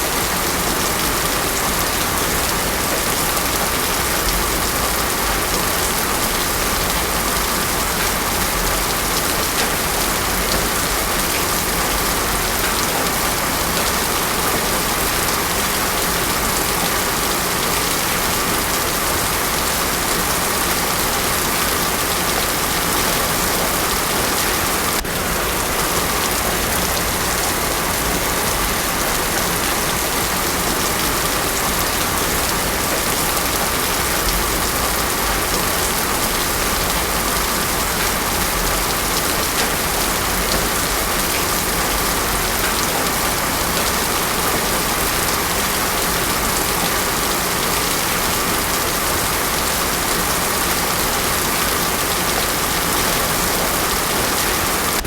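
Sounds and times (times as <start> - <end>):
heavy rain on a road: 0.0 - 55.0.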